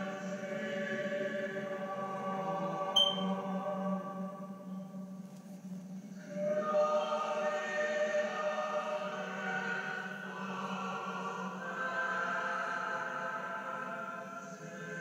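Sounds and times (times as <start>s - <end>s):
choir singing a slow chant: 0.0s - 15.0s.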